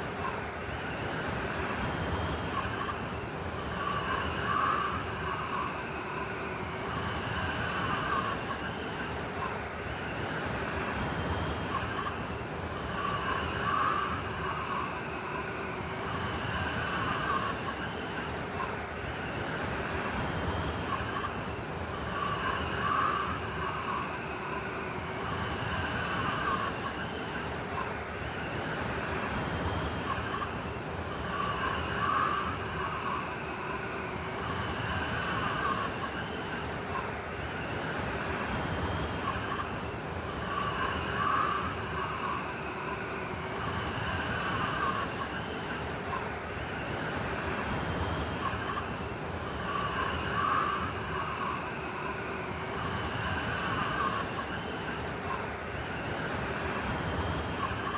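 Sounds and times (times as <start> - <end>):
blizzard wind howling: 0.0 - 57.9
whistling wind gusts: 0.0 - 57.9.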